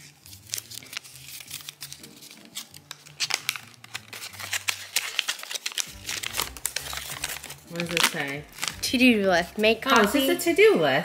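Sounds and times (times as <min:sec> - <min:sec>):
paper crinkling: 0:00.0 - 0:10.5.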